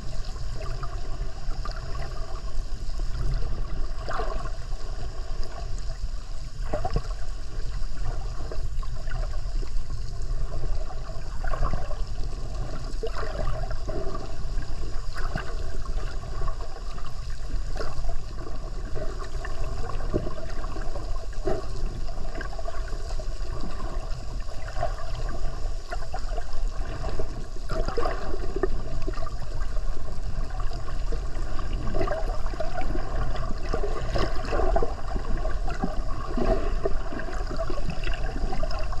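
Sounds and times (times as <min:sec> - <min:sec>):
underwater rush with gurgles: 0:00.0 - 0:39.0.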